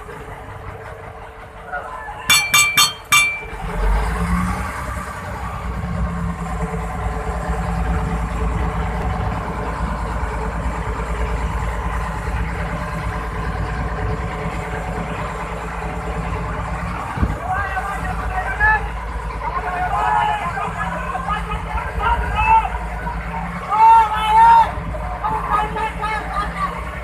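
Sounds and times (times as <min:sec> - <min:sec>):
boat engine droning: 0:00.0 - 0:27.0
wind: 0:00.0 - 0:27.0.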